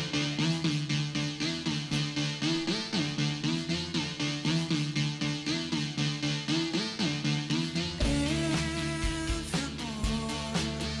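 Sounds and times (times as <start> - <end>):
repeating gliding synthesizer figure: 0.0 - 8.8.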